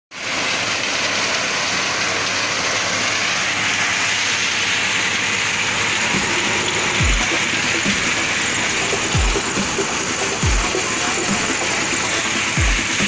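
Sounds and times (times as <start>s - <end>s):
tractor running: 0.2s - 13.0s.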